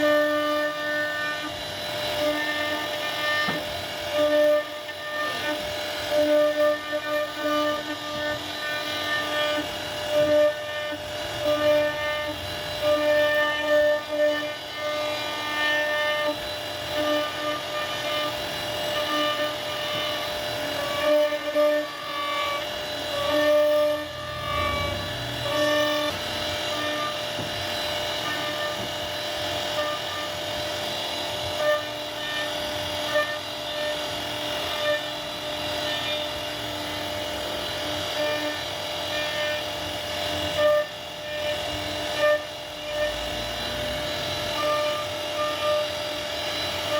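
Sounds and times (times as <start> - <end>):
cnc router spindle whine: 0.0 - 46.9
router bit cutting wood: 0.0 - 46.9.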